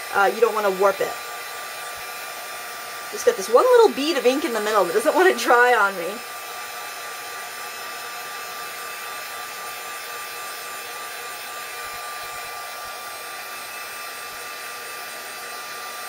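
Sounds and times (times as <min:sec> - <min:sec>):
heat tool blowing air: 0:00.0 - 0:16.0.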